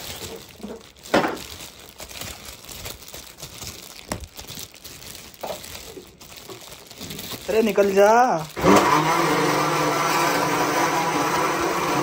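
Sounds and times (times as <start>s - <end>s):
plastic cups handled: 0.0s - 9.9s
plastic bag crinkling: 0.0s - 11.2s.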